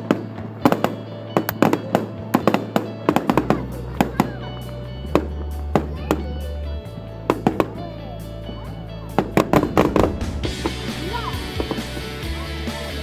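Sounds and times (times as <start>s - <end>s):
fireworks bangs and crackles: 0.0s - 13.0s
music with deep sustained notes: 0.0s - 13.0s.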